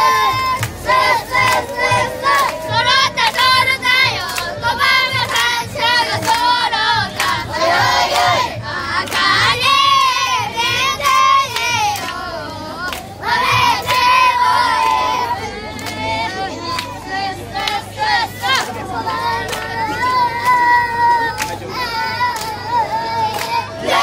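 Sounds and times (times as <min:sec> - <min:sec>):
children singing together: 0:00.0 - 0:24.0
crowd of voices: 0:00.0 - 0:24.0
hands clapping in time: 0:00.0 - 0:24.0.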